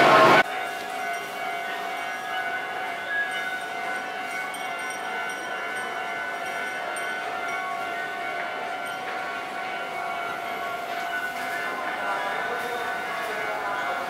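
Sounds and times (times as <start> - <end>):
railway station hum: 0.0 - 14.0.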